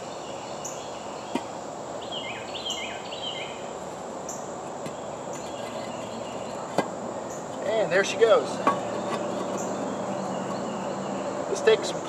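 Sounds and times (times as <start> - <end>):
bird chirping: 0.0 - 12.0
steady background hiss: 0.0 - 12.0.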